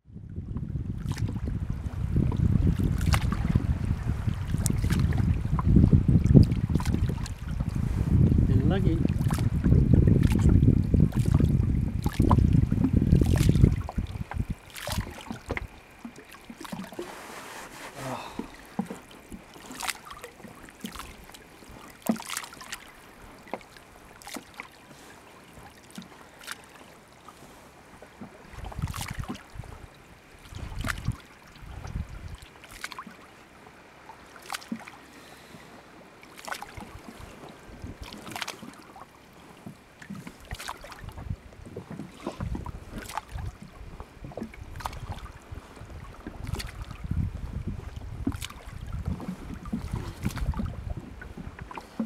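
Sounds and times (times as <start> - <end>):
water splashing: 1.0 - 52.0
small knocks on boat: 2.2 - 3.8, 4.4 - 7.8, 8.9 - 17.2, 18.2 - 26.6, 28.0 - 33.2, 34.4 - 35.7, 36.3 - 52.0.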